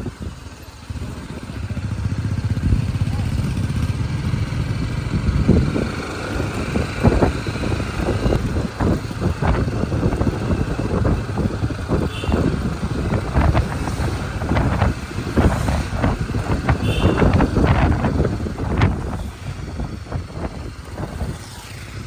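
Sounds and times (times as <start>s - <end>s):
vehicle rumble: 0.0s - 22.0s
wind rushing over microphone: 2.4s - 22.0s.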